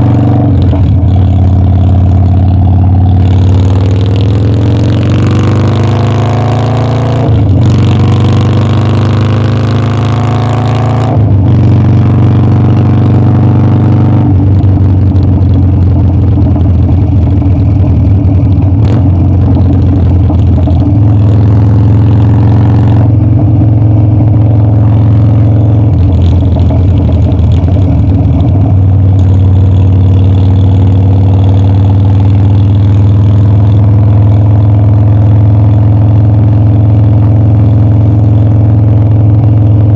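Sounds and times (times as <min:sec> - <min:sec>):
motorcycle engine upshifting: 0:00.0 - 0:34.8.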